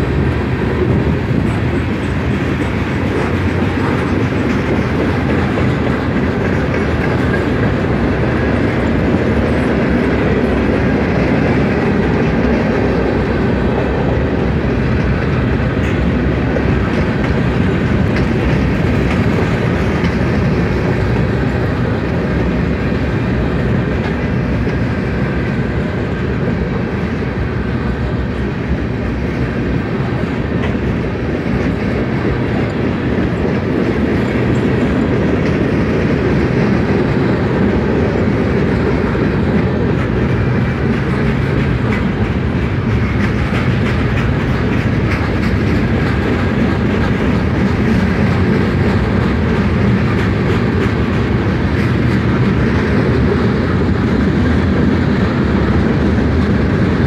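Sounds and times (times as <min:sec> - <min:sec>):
freight train rumbling past: 0:00.0 - 0:57.0
wheels clicking over rail joints: 0:00.0 - 0:57.0.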